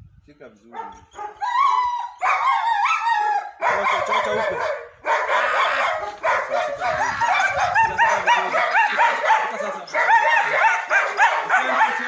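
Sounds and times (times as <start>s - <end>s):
dog barking rapidly: 0.7s - 1.4s, 2.2s - 12.0s.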